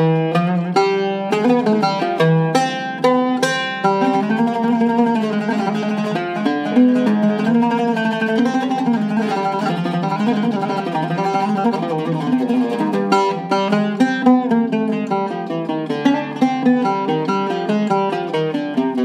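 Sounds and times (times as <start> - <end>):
oud plucked melody: 0.0 - 19.0.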